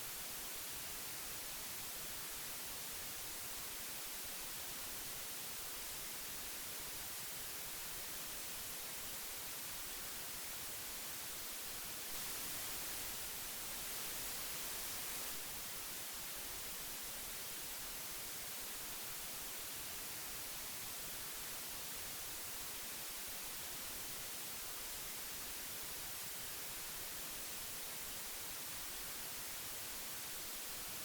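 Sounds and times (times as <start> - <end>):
tape hiss: 0.0 - 31.0.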